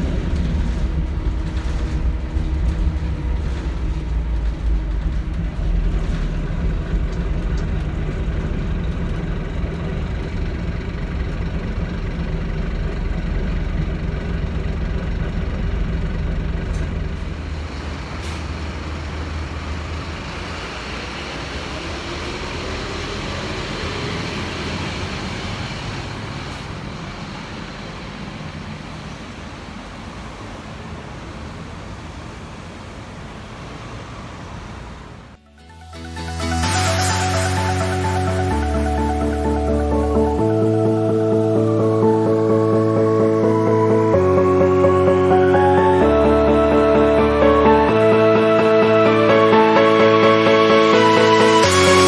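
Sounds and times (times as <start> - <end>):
bus accelerating away: 0.0 - 52.0
bus diesel engine humming: 0.0 - 52.0.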